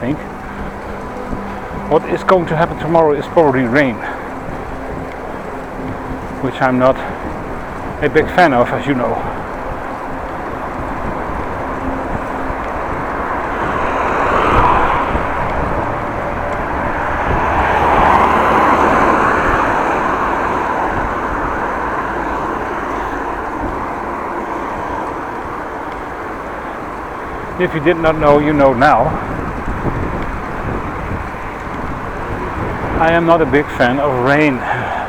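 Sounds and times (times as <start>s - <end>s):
bicycle road noise: 0.0s - 35.0s
rushing wind: 0.0s - 35.0s.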